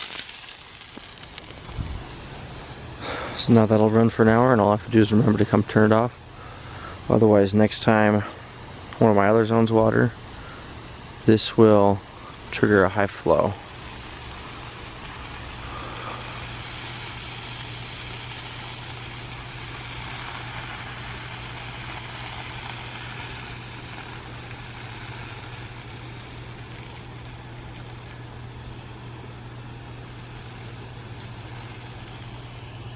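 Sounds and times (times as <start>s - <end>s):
low machine hum: 0.0s - 32.9s
sprinkler spray hissing: 0.0s - 32.9s.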